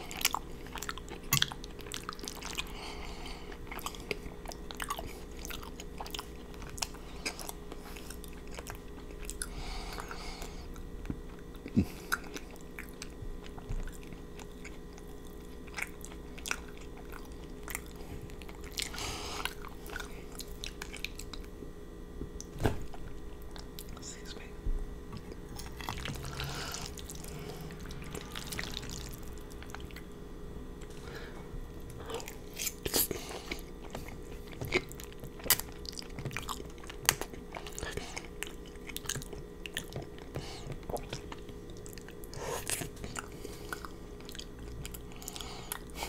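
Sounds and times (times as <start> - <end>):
person chewing wet mouth sounds: 0.0 - 21.6, 22.4 - 24.5, 25.1 - 30.2, 30.8 - 46.0.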